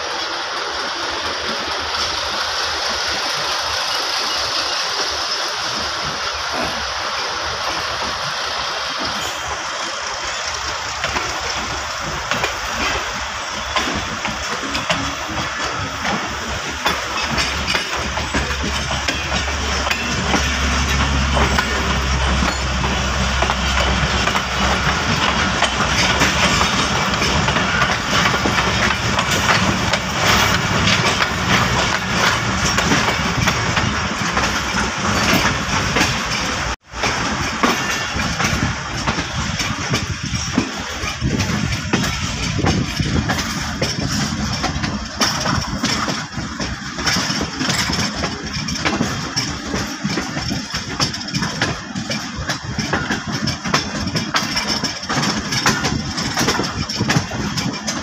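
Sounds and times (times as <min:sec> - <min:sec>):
rushing air: 0:00.0 - 0:48.8
train wheels rumbling on rails: 0:00.0 - 0:58.0.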